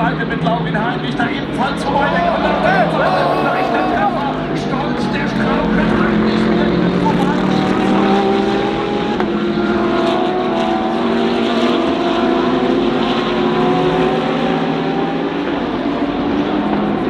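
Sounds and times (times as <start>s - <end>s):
race car engines revving high: 1.1s - 17.0s.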